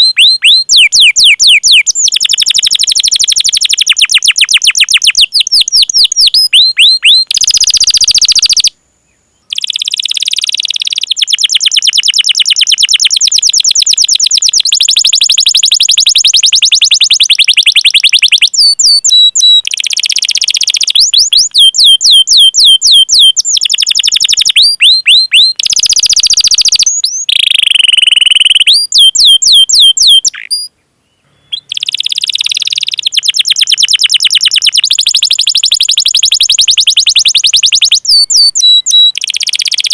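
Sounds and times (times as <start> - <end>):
canary singing trills: 0.0 - 8.8, 9.4 - 39.9.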